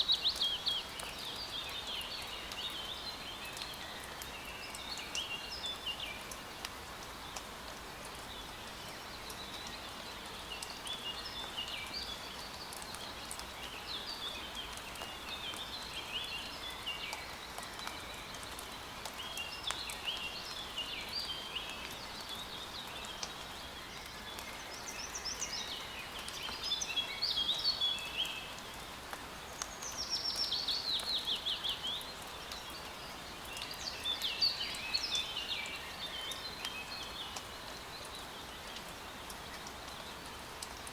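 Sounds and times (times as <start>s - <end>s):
light rain pattering: 0.0s - 40.9s
songbirds chirping: 0.0s - 40.9s.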